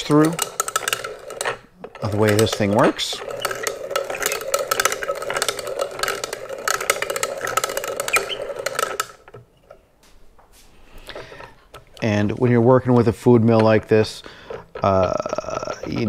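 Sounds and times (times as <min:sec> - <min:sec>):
food mill blade scraping and rattling: 0:00.0 - 0:09.8, 0:11.0 - 0:16.0.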